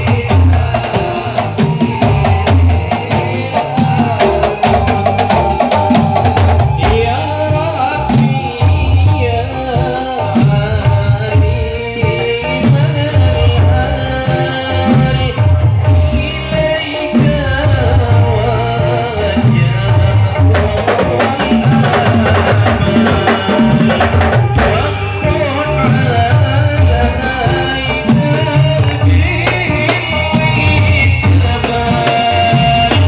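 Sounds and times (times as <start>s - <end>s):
group singing chant: 0.0s - 10.7s, 11.9s - 33.0s
frame drums playing: 0.0s - 33.0s.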